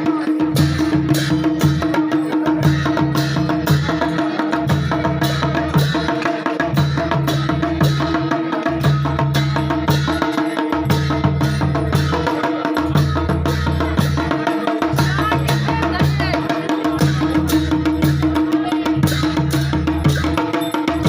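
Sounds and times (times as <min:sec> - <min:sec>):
folk drums beating: 0:00.0 - 0:21.0.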